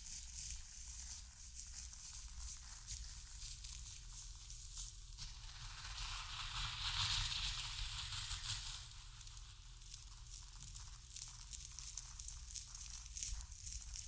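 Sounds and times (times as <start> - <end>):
seeds rustling in a bowl: 0.0 - 14.0.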